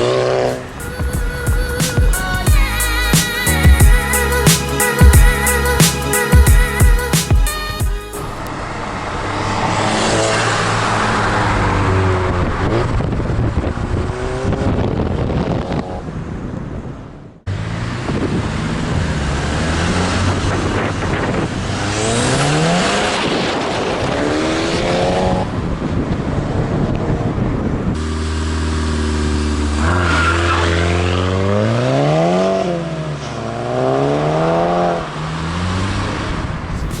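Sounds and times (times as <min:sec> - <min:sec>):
car engine accelerating hard: 0:00.0 - 0:07.1, 0:08.2 - 0:16.8, 0:17.5 - 0:37.0.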